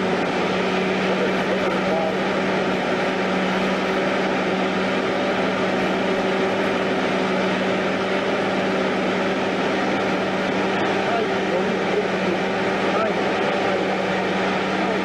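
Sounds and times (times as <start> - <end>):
engine-like drone: 0.0 - 15.0.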